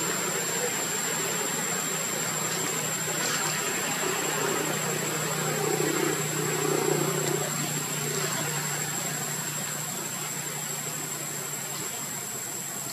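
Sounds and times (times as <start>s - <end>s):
high-pitched whine: 0.0s - 12.9s
steady hiss: 0.0s - 12.9s.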